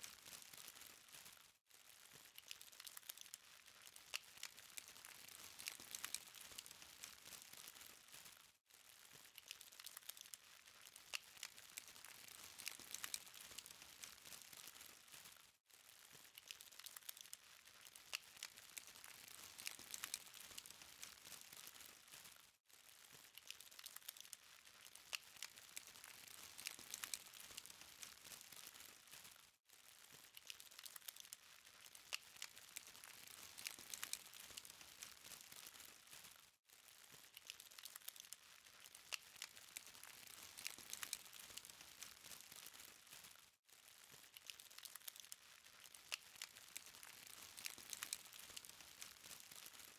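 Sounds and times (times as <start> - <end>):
charcoal fire crackling: 0.0 - 49.9.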